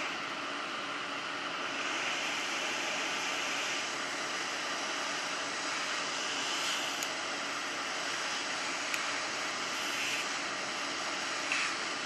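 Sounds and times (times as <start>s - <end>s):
hot air blower rushing: 0.0s - 12.0s.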